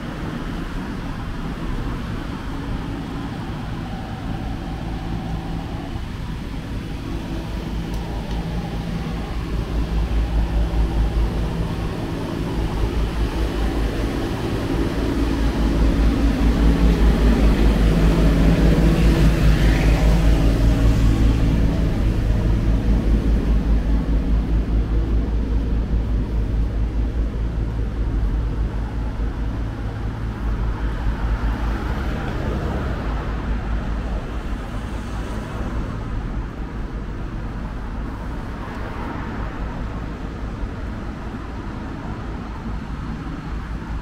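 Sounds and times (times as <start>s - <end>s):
city street noise: 0.0s - 44.0s
vehicle engine humming: 0.0s - 44.0s.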